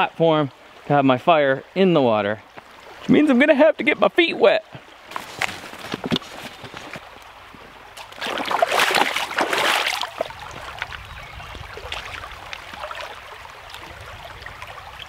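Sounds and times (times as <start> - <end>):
shallow rocky stream running: 0.0 - 15.0
water splashing: 2.5 - 15.0.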